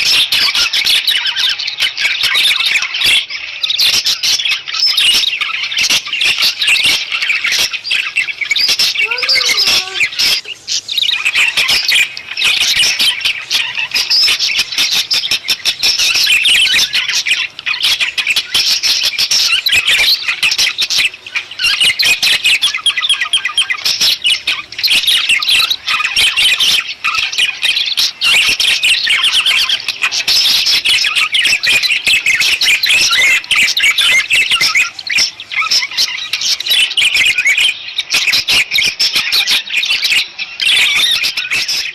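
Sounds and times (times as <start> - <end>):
budgerigars chattering and warbling: 0.0 - 41.9.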